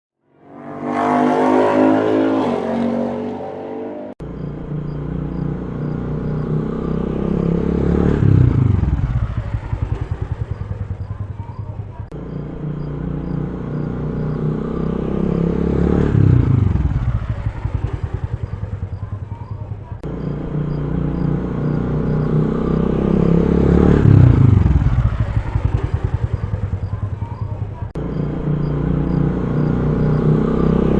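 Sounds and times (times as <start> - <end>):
motorcycle engine revving: 0.3 - 30.9.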